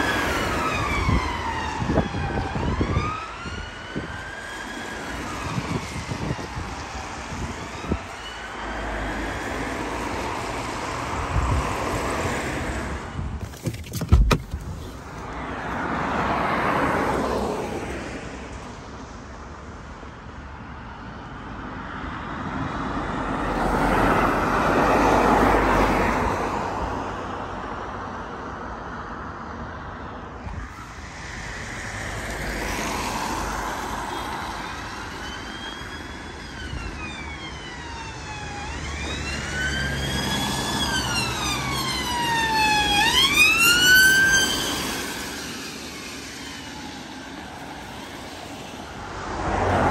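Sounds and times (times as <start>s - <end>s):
vehicles passing: 0.0s - 49.9s.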